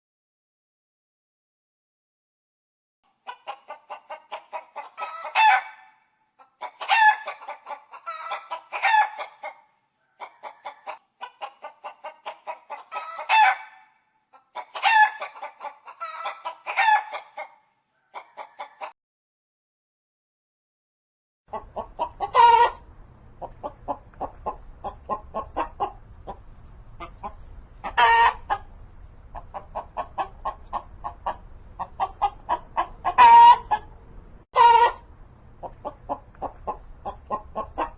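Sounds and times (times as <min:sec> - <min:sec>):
hen cackling and squawking: 0:03.1 - 0:19.0, 0:21.5 - 0:26.4, 0:27.0 - 0:34.0, 0:34.6 - 0:37.9.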